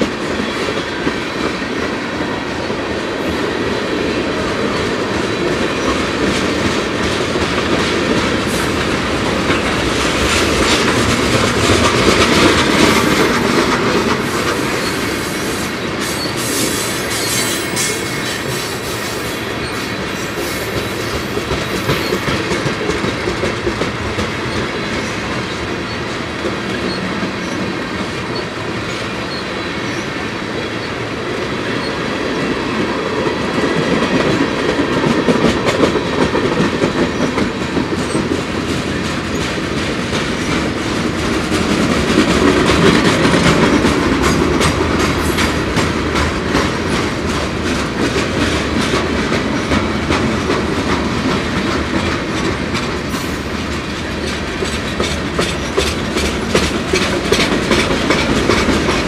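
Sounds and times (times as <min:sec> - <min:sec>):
freight train rolling past: 0:00.0 - 0:59.0
wheels clacking over rail joints: 0:03.8 - 0:30.0, 0:31.7 - 0:59.0.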